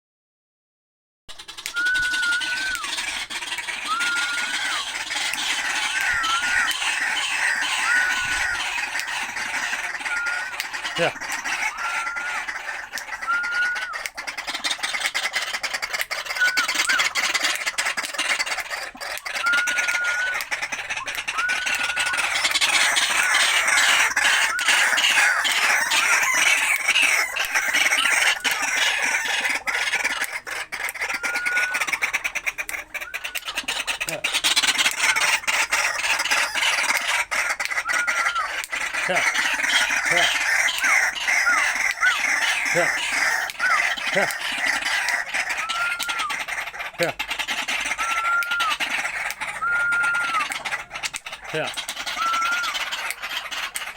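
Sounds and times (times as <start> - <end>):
bird calling harsh repeated notes: 1.3 - 53.9.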